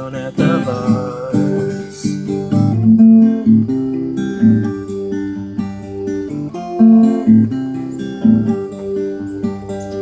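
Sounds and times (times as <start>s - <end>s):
acoustic guitar chords: 0.0s - 10.0s.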